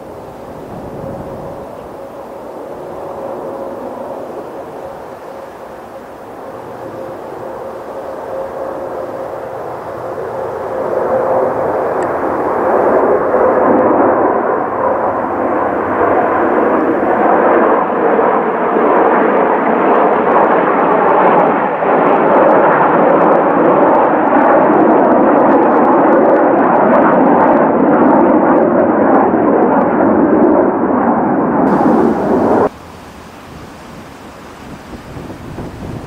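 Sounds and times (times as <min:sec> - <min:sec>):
jet aircraft flying over: 0:00.0 - 0:36.0.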